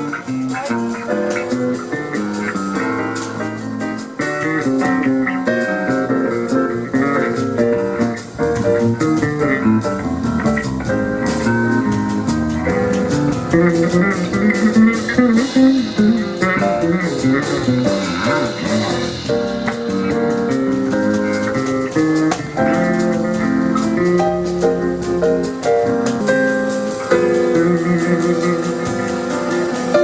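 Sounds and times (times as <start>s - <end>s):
jazz band playing: 0.0s - 30.0s
walking bass line: 0.0s - 30.0s.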